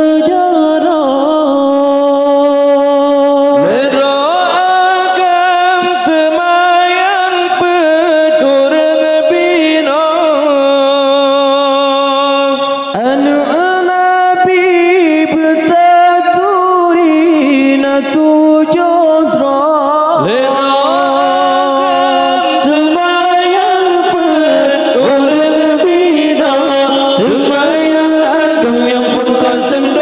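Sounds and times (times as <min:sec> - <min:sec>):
men chanting unaccompanied: 0:03.6 - 0:30.0.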